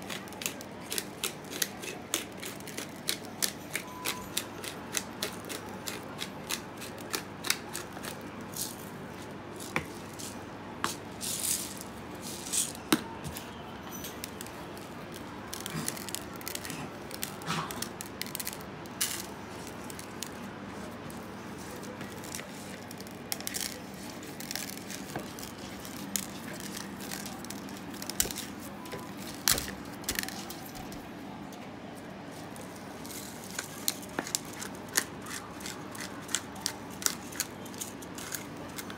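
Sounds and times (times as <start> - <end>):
pepper mill grinding: 0.0 - 9.0, 9.6 - 12.8, 13.4 - 30.9, 32.5 - 38.9.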